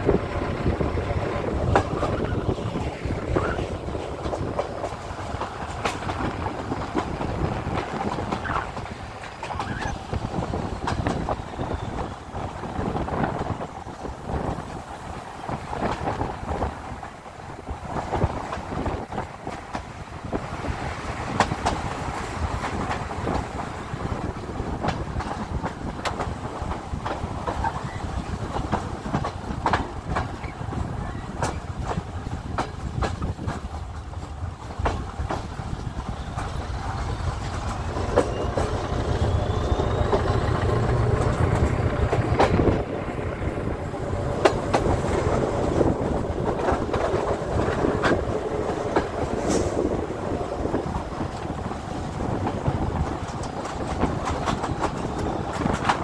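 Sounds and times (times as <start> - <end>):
train wheels clacking over rail joints: 0.0 - 56.0.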